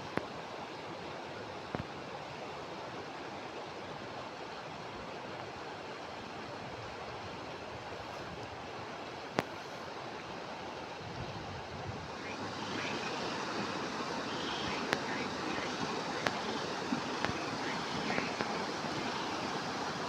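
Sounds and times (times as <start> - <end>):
running water rushing: 0.1 - 20.0.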